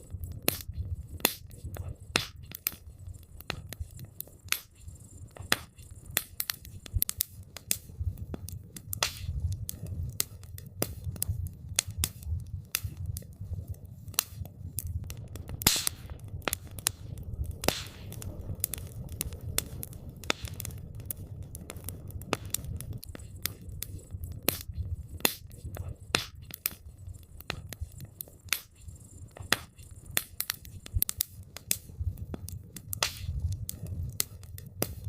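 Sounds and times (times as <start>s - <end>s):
campfire crackling: 0.0s - 35.0s
low rumble of burning: 0.0s - 35.0s.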